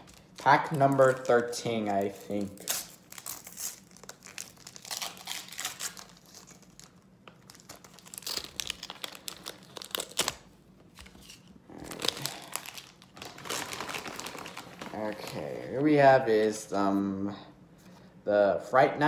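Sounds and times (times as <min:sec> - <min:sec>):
wrapper tearing and crinkling: 0:00.0 - 0:15.8.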